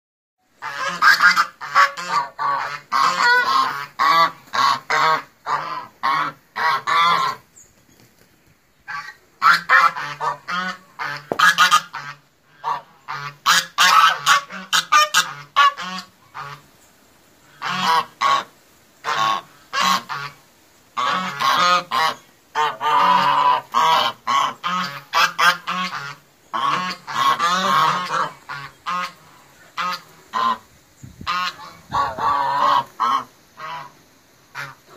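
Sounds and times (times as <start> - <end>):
geese honking: 0.6 - 7.5, 8.9 - 16.7, 17.5 - 20.4, 21.0 - 34.9.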